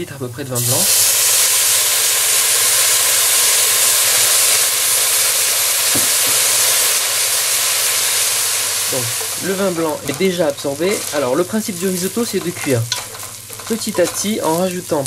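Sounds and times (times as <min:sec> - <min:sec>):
wine sizzling in hot pot: 0:00.5 - 0:15.0.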